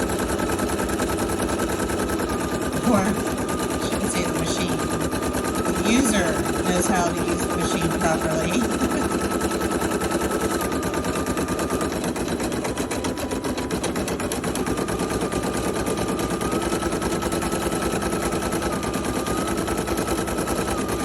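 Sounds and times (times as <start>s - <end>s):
thin motor whine: 0.0s - 21.0s.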